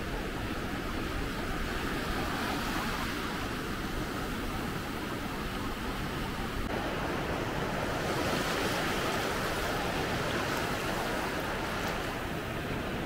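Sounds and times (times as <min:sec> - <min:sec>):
small waves breaking on sand: 0:00.2 - 0:13.0.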